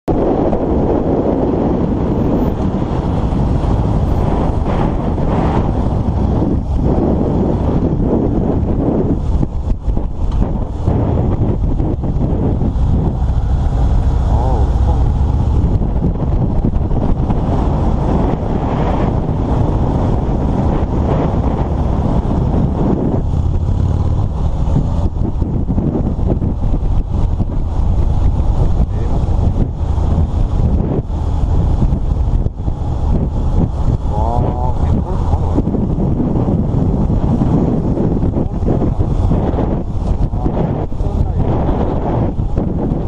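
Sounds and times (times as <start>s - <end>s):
motorcycle engine running: 0.1s - 43.0s
wind buffeting microphone: 0.1s - 43.0s.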